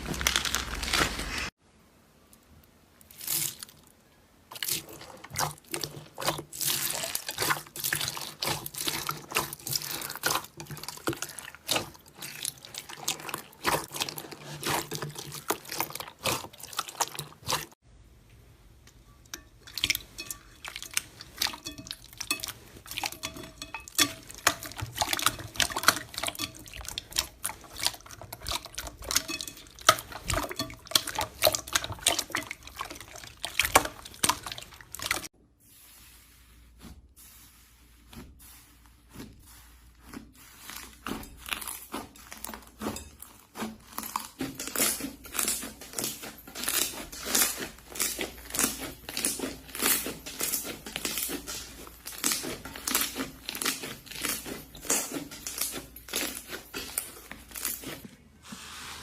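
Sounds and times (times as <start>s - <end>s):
slime squelching by hand: 0.0s - 1.6s, 3.0s - 17.8s, 19.6s - 59.0s.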